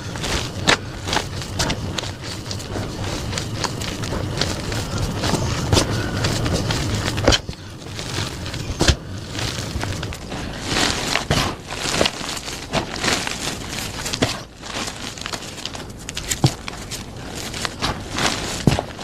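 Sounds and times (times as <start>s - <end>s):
chalk being crushed: 0.0s - 19.0s.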